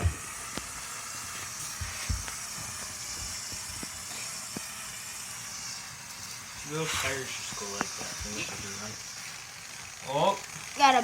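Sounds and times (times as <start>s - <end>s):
toy electric motors whirring: 0.0s - 11.0s.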